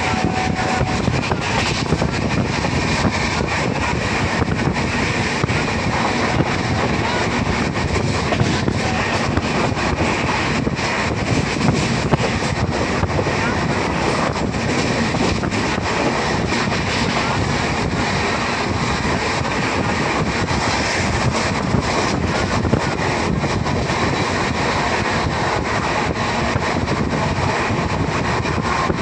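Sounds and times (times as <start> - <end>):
moving vehicle noise: 0.0 - 29.0
wind buffeting microphone: 0.0 - 29.0.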